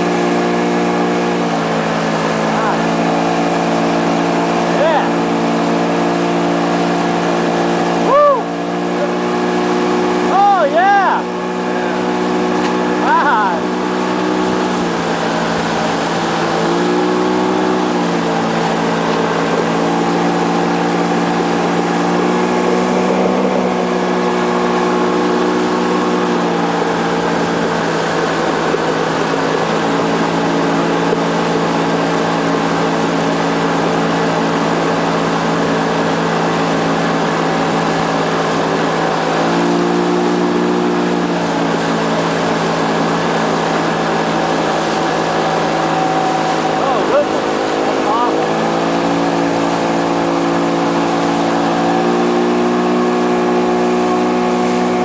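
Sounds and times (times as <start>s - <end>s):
outboard motor running: 0.0s - 55.0s
wake water rushing: 0.0s - 55.0s
wind: 0.0s - 55.0s.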